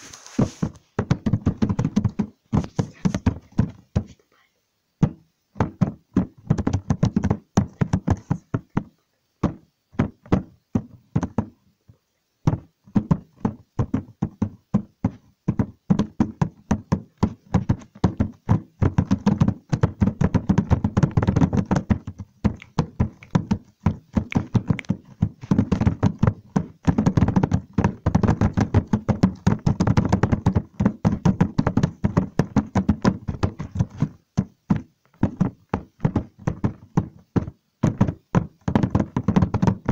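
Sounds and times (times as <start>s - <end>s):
rapid irregular knocking: 0.4s - 4.2s, 5.0s - 11.6s, 12.5s - 39.9s.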